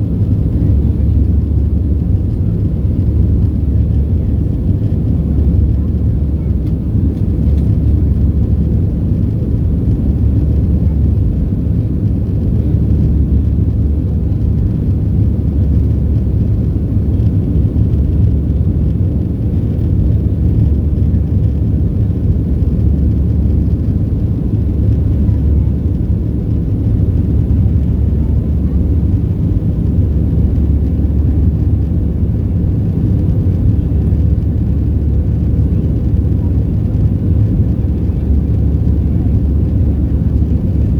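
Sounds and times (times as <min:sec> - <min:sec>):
airplane engines rumbling in cabin: 0:00.0 - 0:40.9.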